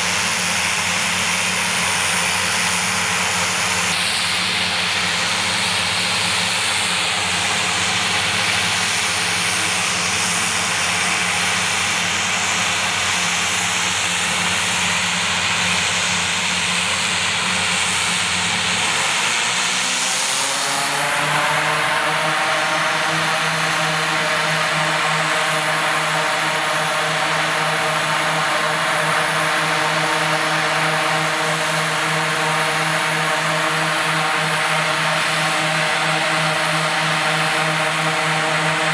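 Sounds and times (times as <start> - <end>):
turboprop engines whining: 0.0 - 38.9.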